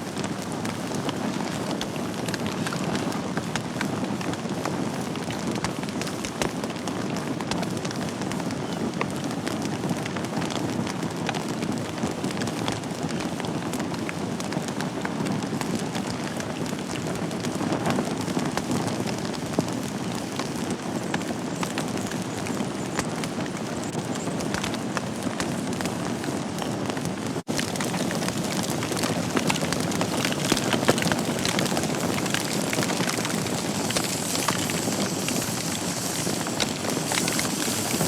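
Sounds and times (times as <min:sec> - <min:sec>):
fire crackles and pops: 0:00.0 - 0:38.0
fire flames rushing: 0:00.0 - 0:38.0.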